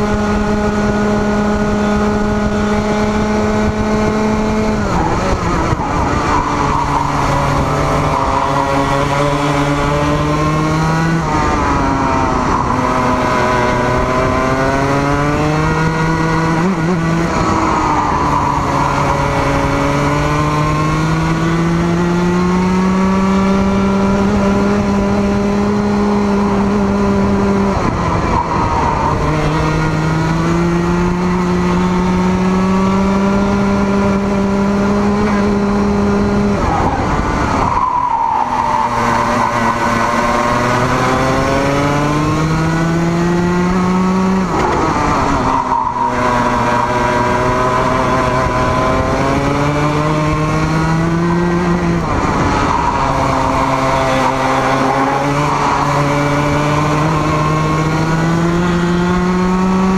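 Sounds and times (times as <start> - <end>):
kart engine at full throttle: 0.0 - 59.9.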